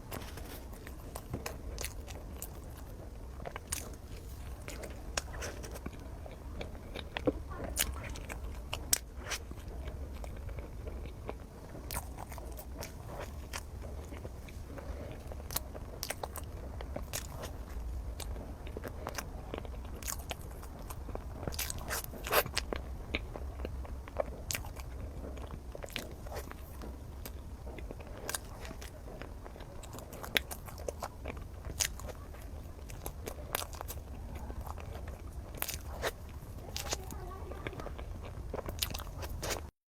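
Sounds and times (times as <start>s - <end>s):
person chewing cake: 0.0s - 39.7s.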